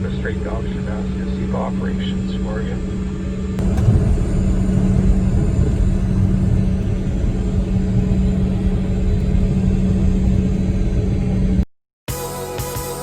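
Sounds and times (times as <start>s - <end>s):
jet cabin engine rumble: 0.0s - 11.6s.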